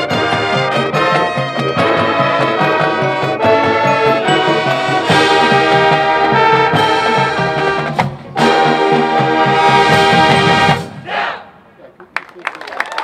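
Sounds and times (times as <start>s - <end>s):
marching band brass chords: 0.0s - 11.8s.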